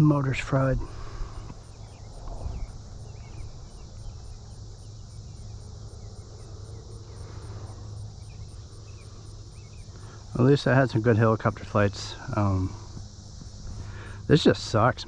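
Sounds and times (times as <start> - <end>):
low steady rumble: 0.0 - 14.8
insects chirping: 0.0 - 15.0.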